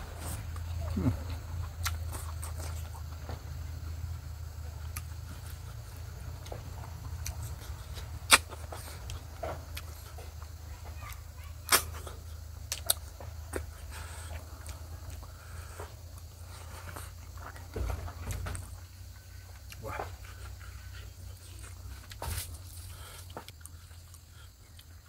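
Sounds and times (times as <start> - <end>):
person chewing: 0.0 - 25.0
steady low hum: 0.0 - 25.0.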